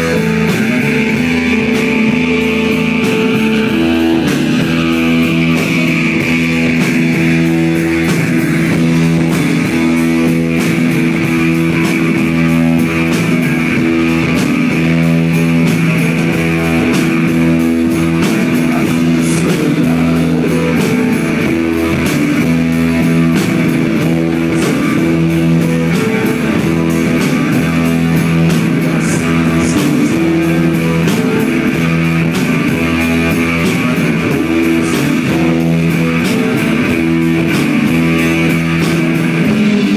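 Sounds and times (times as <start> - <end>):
bass guitar: 0.0 - 39.9
drum kit: 0.0 - 39.9
electric guitar: 0.0 - 39.9
keyboard: 0.0 - 39.9.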